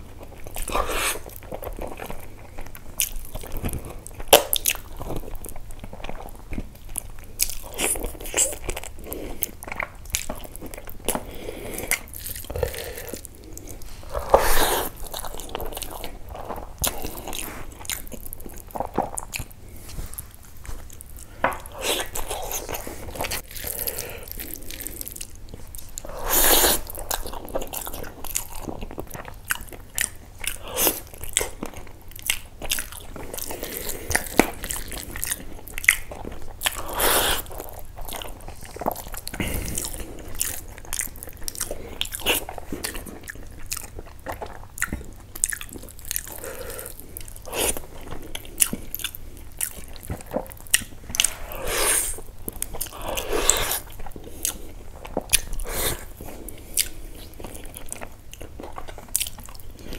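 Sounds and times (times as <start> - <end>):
person chewing wetly: 0.0 - 59.9.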